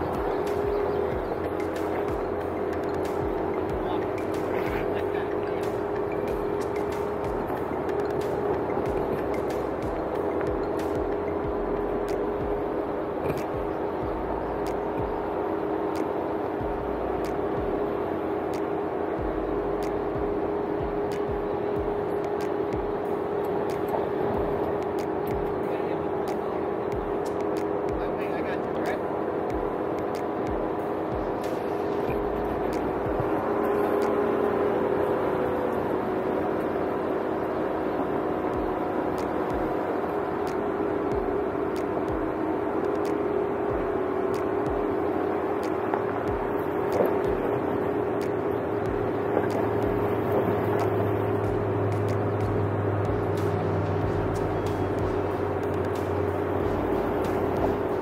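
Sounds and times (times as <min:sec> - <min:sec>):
vehicle engine and road drone: 0:00.0 - 0:58.0.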